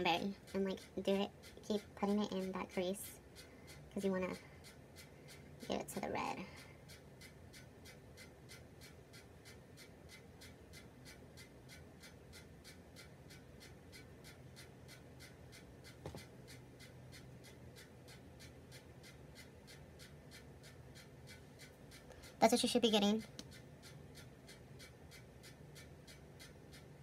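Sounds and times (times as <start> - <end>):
ceiling fan ticking and humming: 0.0 - 27.0.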